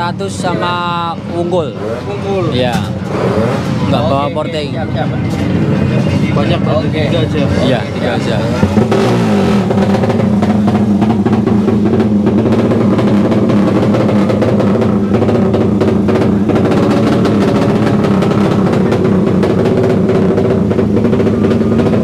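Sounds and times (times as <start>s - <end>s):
racing motorcycle engine: 0.0s - 22.0s.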